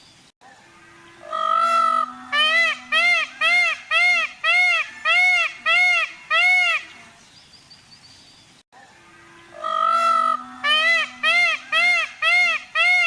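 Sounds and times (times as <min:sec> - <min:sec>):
peacock honking calls: 0:00.7 - 0:07.2, 0:09.0 - 0:13.0.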